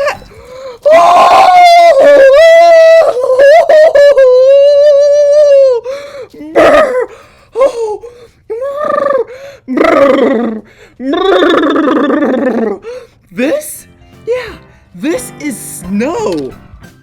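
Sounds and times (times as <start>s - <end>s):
person making excited cries: 0.8s - 14.6s.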